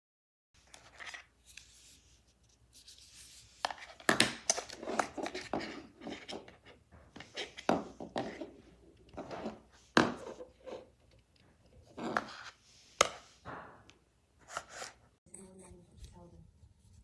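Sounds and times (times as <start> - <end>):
objects rubbing and clicking: 0.6 - 15.2.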